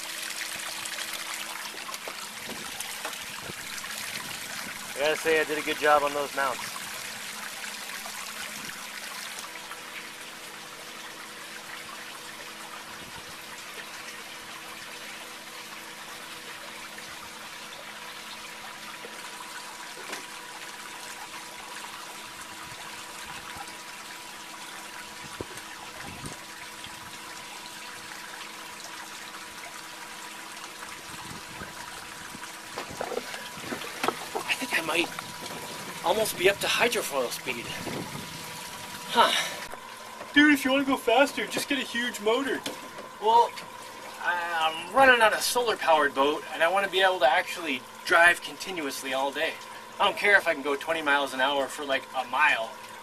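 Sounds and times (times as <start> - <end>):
water splashing along boat hull: 0.0 - 45.9
faint steady hum: 0.0 - 53.0.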